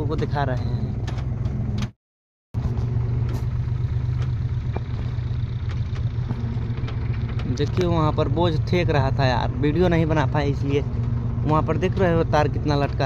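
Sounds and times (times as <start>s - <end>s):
tractor engine running: 0.0s - 2.0s, 2.6s - 13.0s.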